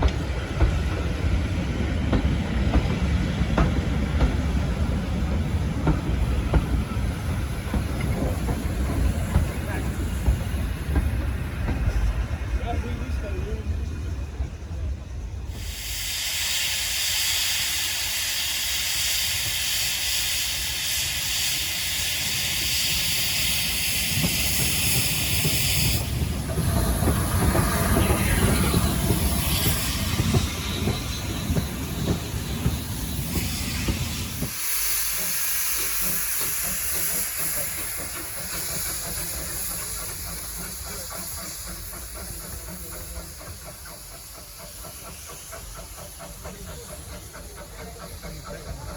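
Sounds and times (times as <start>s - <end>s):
steam locomotive hissing: 0.0s - 48.9s.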